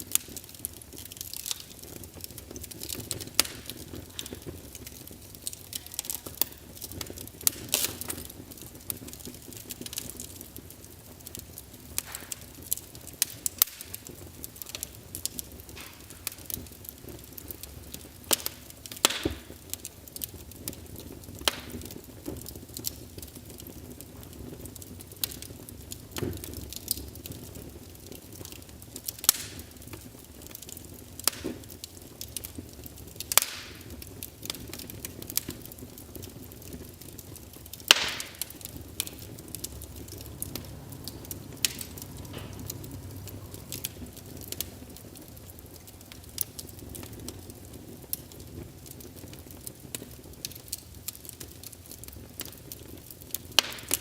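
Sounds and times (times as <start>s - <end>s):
burning logs crackling: 0.0s - 54.0s
fire popping: 0.0s - 54.0s
low rumble of flames: 0.0s - 54.0s.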